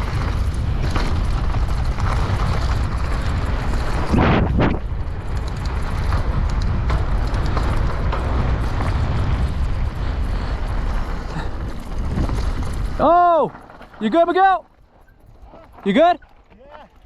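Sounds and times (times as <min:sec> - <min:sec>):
wind rushing over microphone: 0:00.0 - 0:15.8
bike clicks and rattles: 0:00.0 - 0:17.0
tyres crunching on dirt: 0:00.0 - 0:17.0.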